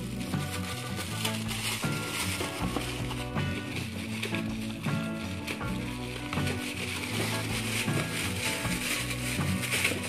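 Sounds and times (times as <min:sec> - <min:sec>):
background music with held notes: 0:00.0 - 0:10.0
plastic bag crinkling: 0:00.0 - 0:10.0.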